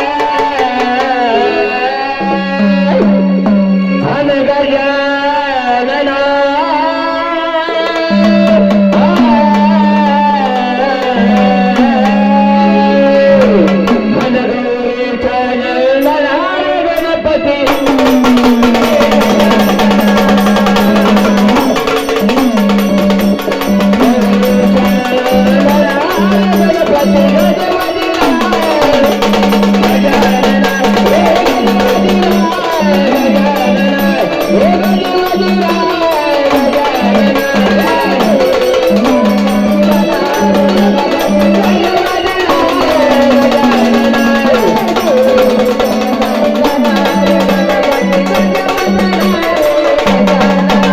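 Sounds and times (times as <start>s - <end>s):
hand drums and percussion: 0.0s - 4.4s, 7.6s - 50.9s
man singing: 0.0s - 50.9s.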